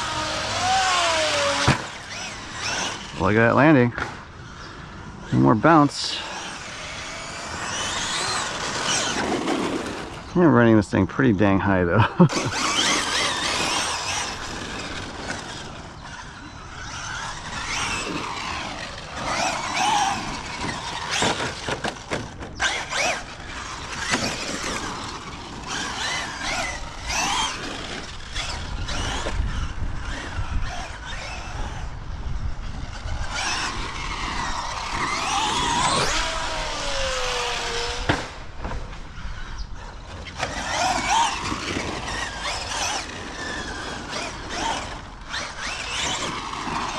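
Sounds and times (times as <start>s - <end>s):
electric motor whining: 0.0s - 10.4s, 12.2s - 46.9s.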